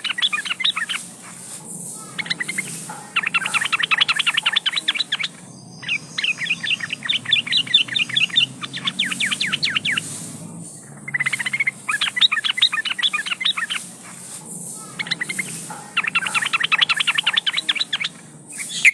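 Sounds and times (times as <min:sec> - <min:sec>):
bird chirping song: 0:00.0 - 0:18.9.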